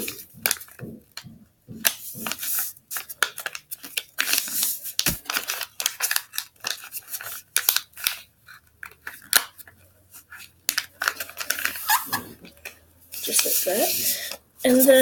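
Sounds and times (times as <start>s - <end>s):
paper folding rustles: 0.0s - 1.2s, 1.8s - 14.8s.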